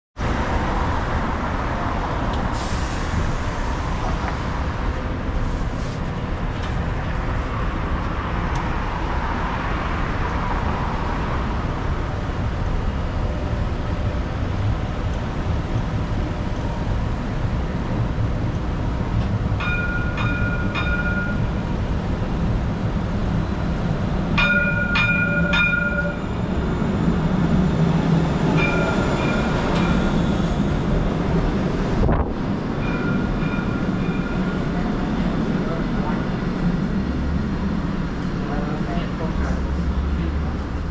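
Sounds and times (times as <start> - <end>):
tram rumbling: 0.2 - 40.9.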